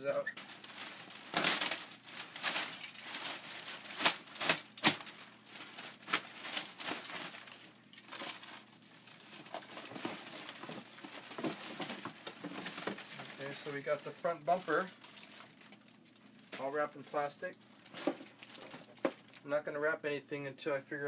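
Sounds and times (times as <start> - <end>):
plastic wrap crinkling: 0.1 - 19.5.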